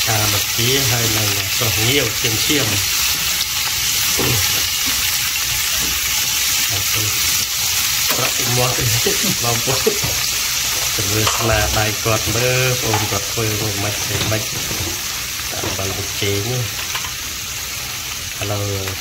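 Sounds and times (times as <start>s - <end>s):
shrimp sizzling in oil: 0.0s - 19.0s.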